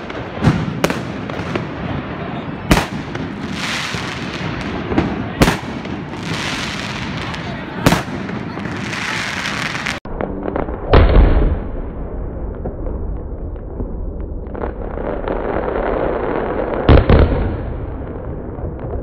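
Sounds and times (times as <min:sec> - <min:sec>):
firework booms: 0:00.0 - 0:19.0
firework crackling and pops: 0:00.0 - 0:19.0.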